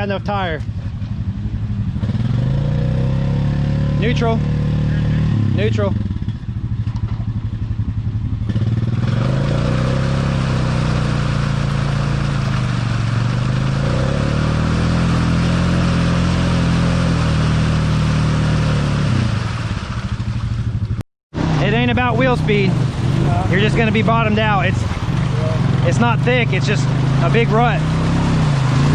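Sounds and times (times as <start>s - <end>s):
atv engine revving under load: 0.0s - 28.9s.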